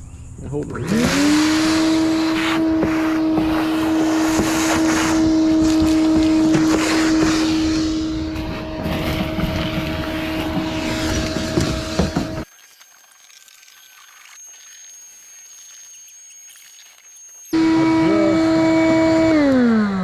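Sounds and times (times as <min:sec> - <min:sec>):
shop vacuum motor whine: 0:00.6 - 0:12.5, 0:14.4 - 0:20.0
debris rattling in hose: 0:01.1 - 0:17.5.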